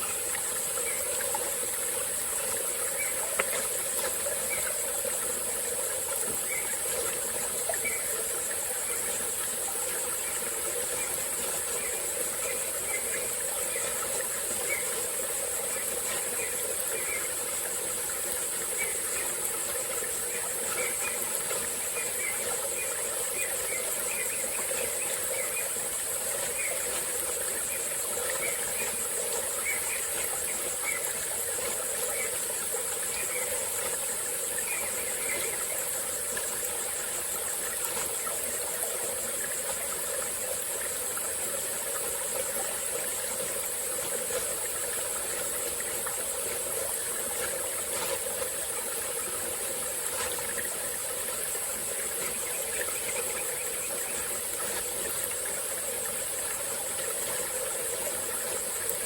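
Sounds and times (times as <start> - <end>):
insects chirring: 0.0 - 59.0
stream flowing: 0.0 - 59.0.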